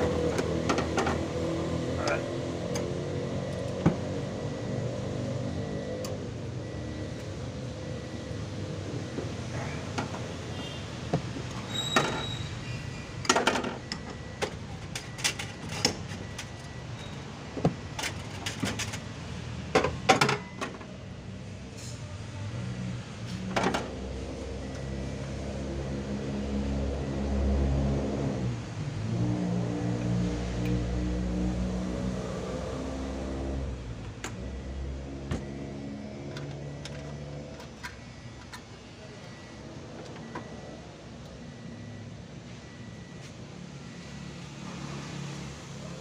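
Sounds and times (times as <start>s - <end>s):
engine-like hum: 0.0s - 46.0s.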